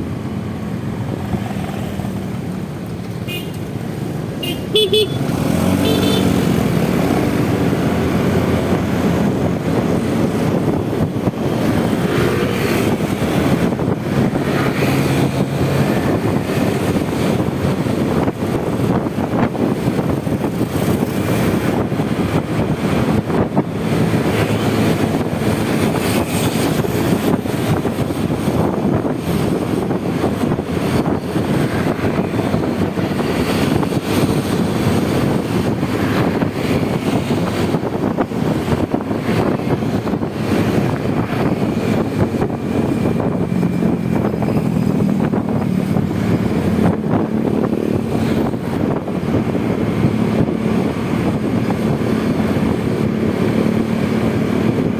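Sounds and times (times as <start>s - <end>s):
road traffic: 0.0s - 54.9s
scooter engine humming: 0.0s - 54.9s
wind rushing on microphone: 0.0s - 54.9s.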